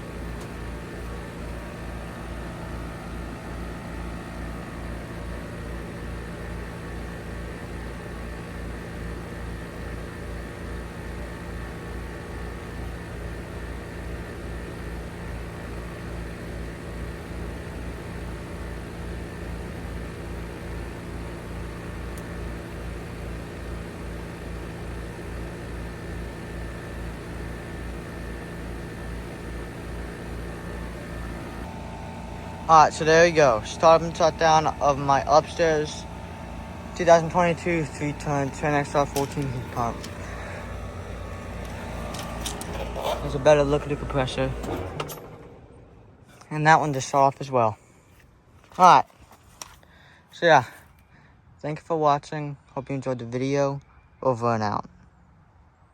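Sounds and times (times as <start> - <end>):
heat pump compressor hum: 0.0 - 52.6
condenser fan pulsing: 0.0 - 53.1.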